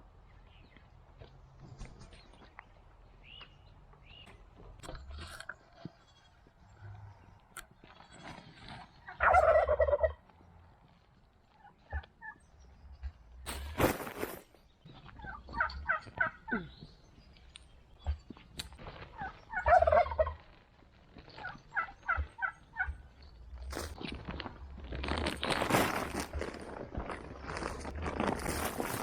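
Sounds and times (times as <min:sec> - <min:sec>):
rough scraping noises: 0:04.3 - 0:29.0.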